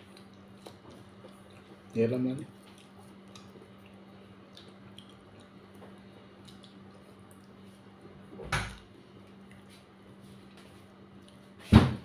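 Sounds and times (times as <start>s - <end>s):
quiet eating noises: 0.0s - 11.7s
steady low hum: 0.0s - 12.0s.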